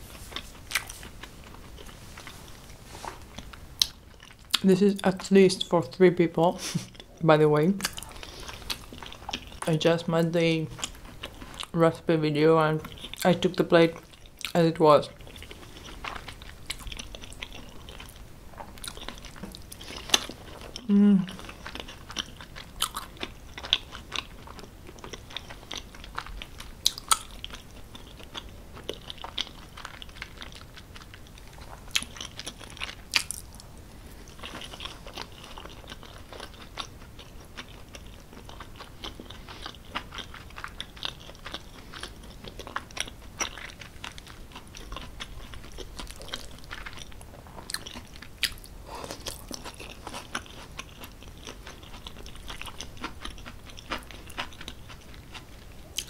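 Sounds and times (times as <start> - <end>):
chewing with mouth clicks: 0.3 - 5.2, 7.8 - 9.7, 12.8 - 56.0.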